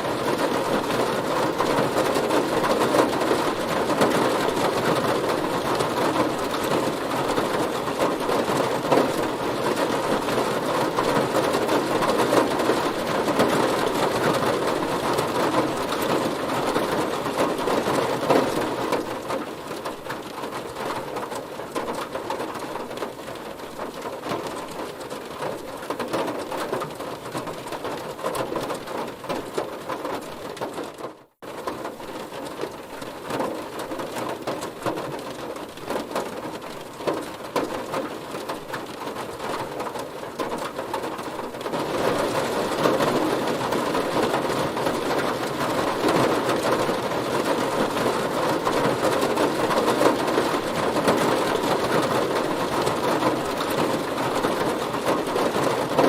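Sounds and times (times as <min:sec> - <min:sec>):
heavy rain on a car: 0:00.0 - 0:56.0.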